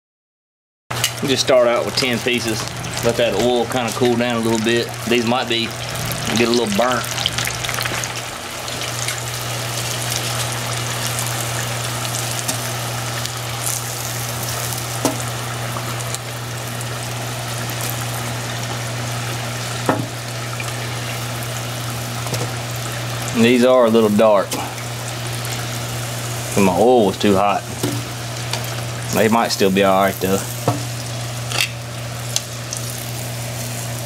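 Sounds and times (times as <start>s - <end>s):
deep-frying sizzle and crackling: 0.9s - 34.0s
low steady hum: 1.0s - 34.0s.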